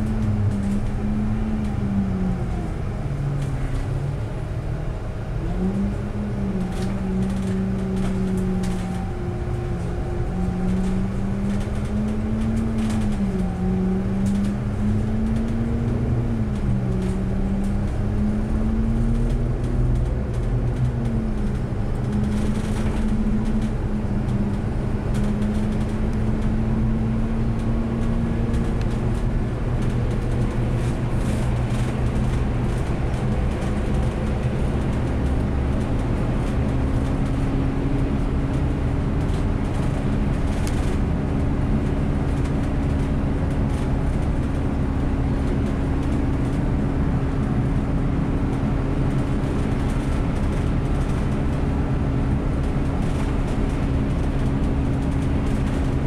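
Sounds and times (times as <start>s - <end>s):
bus road and tyre rumble: 0.0s - 56.0s.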